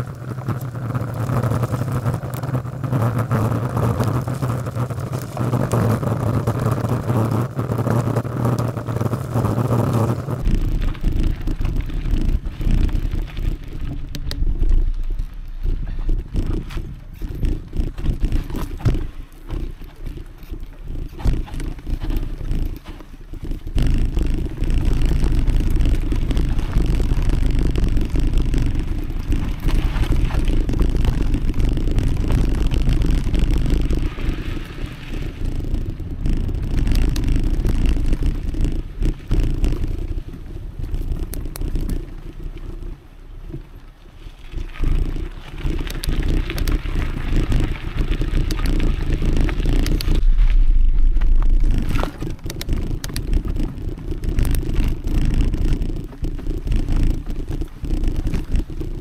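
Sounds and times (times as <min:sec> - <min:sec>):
bike clicks and rattles: 0:00.0 - 0:59.0
bike tyres crunching on dirt: 0:00.0 - 0:59.0
wind on microphone: 0:00.0 - 0:59.0.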